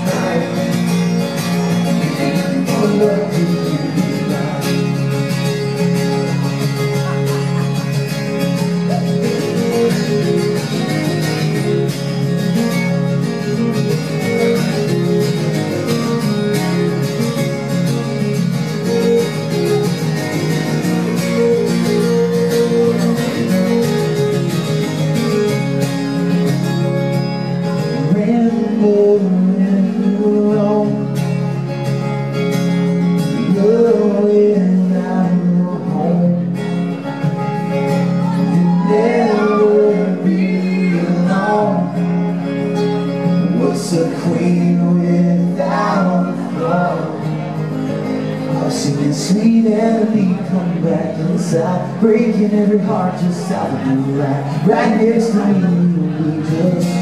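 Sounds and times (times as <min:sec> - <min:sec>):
guitars: 0:00.0 - 0:57.0
live country band playing: 0:00.0 - 0:57.0.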